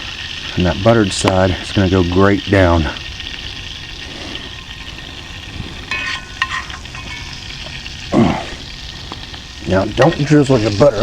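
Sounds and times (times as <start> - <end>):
dough sizzling over campfire: 0.0 - 11.0.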